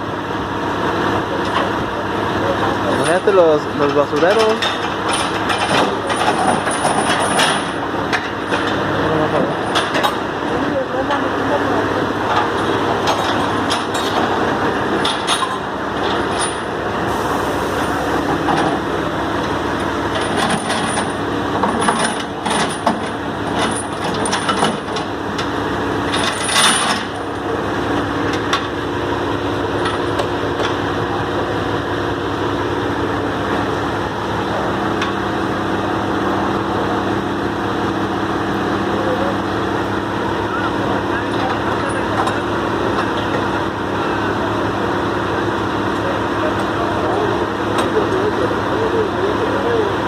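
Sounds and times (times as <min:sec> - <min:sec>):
truck engine running: 0:00.0 - 0:50.0.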